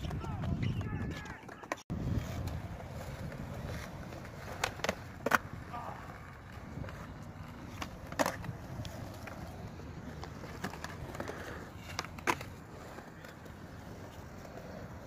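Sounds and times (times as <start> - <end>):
skateboard clacks on concrete: 0.0 - 15.0.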